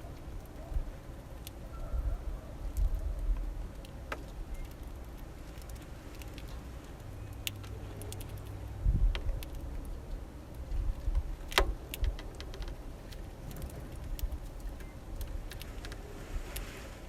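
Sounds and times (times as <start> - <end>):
birds pecking seeds: 0.0 - 17.0.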